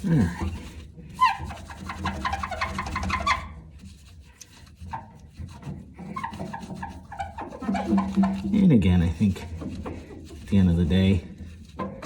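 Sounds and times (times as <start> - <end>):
paper towel scrubbing glass: 0.0 - 12.0.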